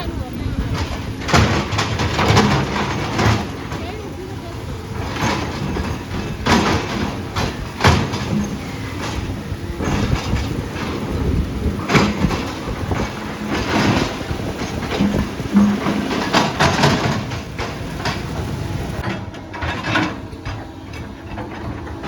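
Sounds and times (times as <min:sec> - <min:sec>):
heavy machine rumbling: 0:00.0 - 0:22.0
metallic knocks and clanks: 0:00.7 - 0:22.0.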